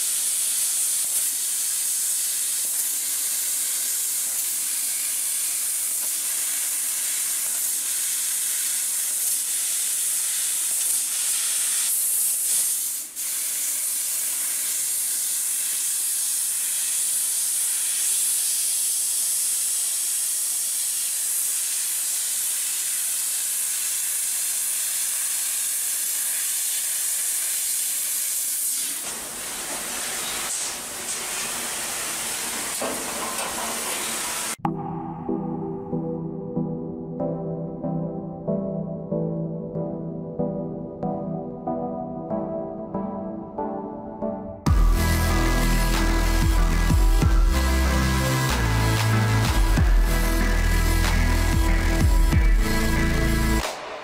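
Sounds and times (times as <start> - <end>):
laser cutter hissing: 0.0 - 34.6, 44.7 - 53.7.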